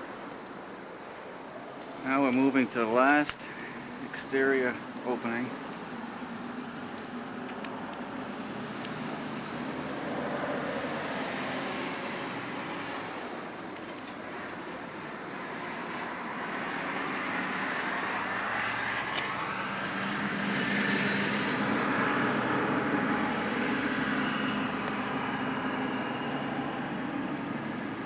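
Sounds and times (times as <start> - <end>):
motor vehicle passing by: 3.0 - 28.0.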